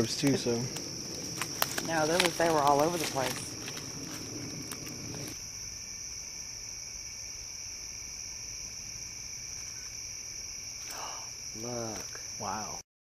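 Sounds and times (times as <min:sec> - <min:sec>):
crickets chirping: 0:00.0 - 0:12.8.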